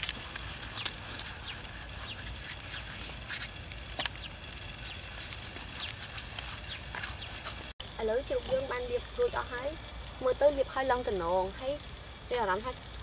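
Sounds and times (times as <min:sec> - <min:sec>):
birds chirping: 0:00.4 - 0:11.2.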